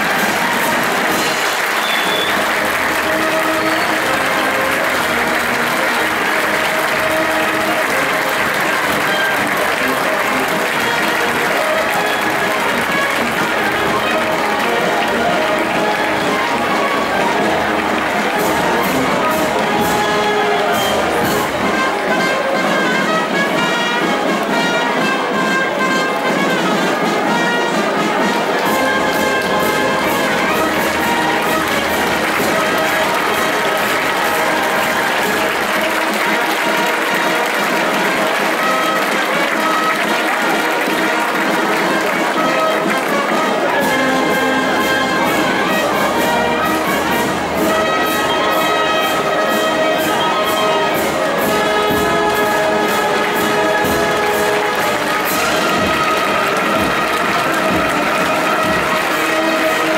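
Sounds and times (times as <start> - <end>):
brass band playing chords: 0.0 - 59.9
large crowd applauding: 0.0 - 59.9.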